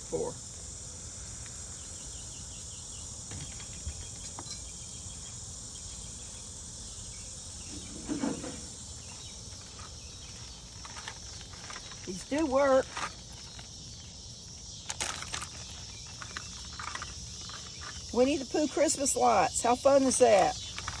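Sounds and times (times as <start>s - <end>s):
cicadas chorus: 0.0s - 21.0s.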